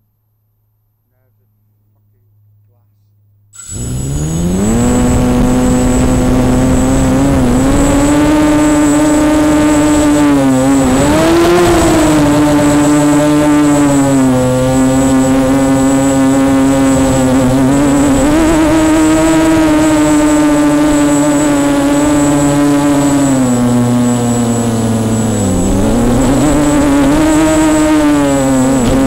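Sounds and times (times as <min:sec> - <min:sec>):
drone propellers buzzing: 0:03.6 - 0:29.0.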